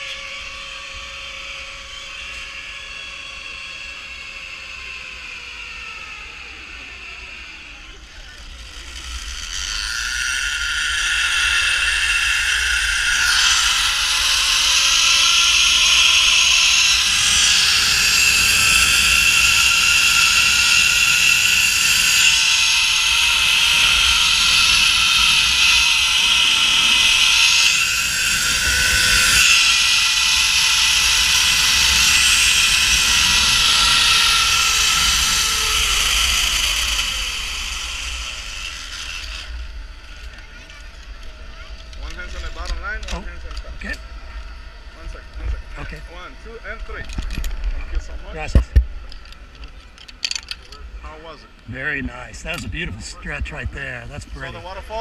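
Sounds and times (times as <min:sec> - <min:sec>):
zip-line pulleys whirring on cable: 0:00.0 - 0:48.4.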